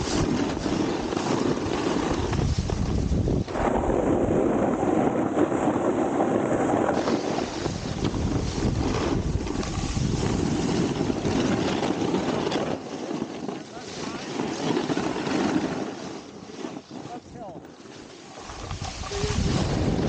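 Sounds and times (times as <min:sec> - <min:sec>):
wind noise on microphone: 0:00.0 - 0:17.7, 0:18.3 - 0:20.0
snowboard scraping icy snow: 0:00.0 - 0:20.0.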